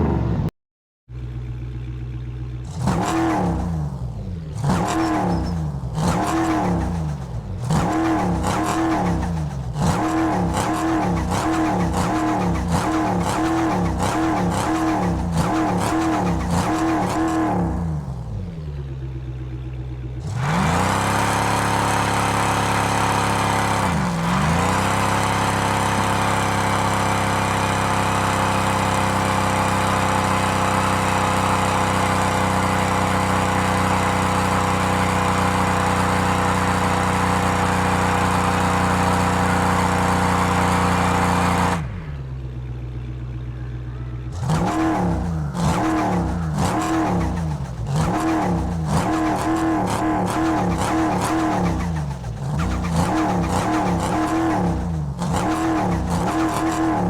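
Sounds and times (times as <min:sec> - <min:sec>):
supercharged engine whine: 0:01.2 - 0:19.2, 0:20.1 - 0:57.0
engine revving in blips: 0:02.6 - 0:19.2, 0:20.1 - 0:57.0.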